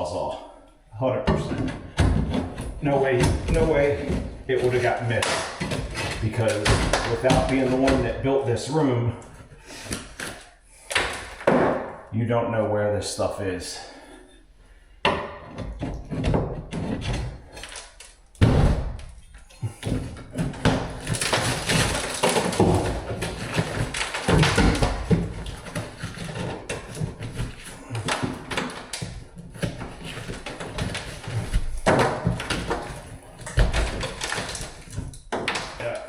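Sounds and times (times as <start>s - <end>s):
drywall crunching and scraping: 0.0s - 11.9s, 15.2s - 36.0s
drywall knocks and cracks: 1.2s - 8.4s, 9.2s - 12.1s, 15.0s - 36.0s.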